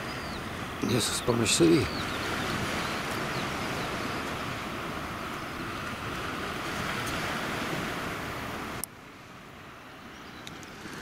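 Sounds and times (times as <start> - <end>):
distant surf breaking: 0.0 - 11.0.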